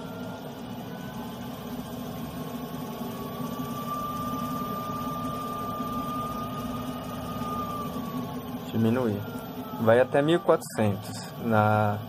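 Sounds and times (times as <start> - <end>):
lathe whine rising in pitch: 0.0 - 12.0
wood lathe motor hum: 0.0 - 12.0.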